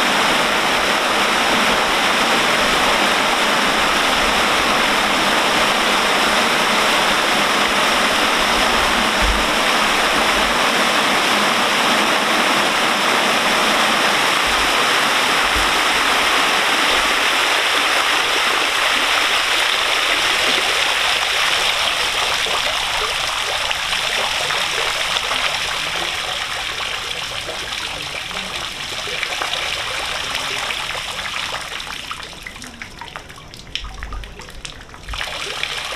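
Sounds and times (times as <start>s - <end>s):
water pouring and splashing: 0.0s - 35.9s
water trickling and dripping: 0.1s - 12.2s, 13.3s - 35.9s.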